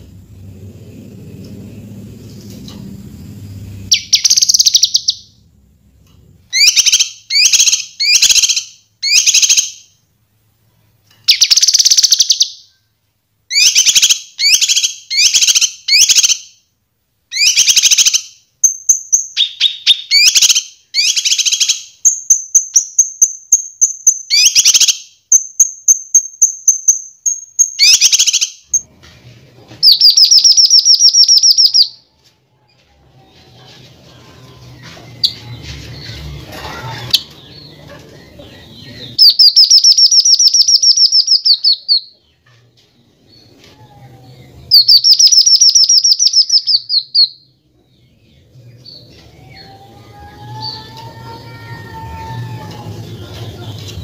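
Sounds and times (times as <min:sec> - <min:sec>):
songbird singing: 0:00.0 - 0:10.0, 0:11.1 - 0:16.5, 0:17.3 - 0:28.9, 0:29.8 - 0:32.1, 0:33.3 - 0:54.0.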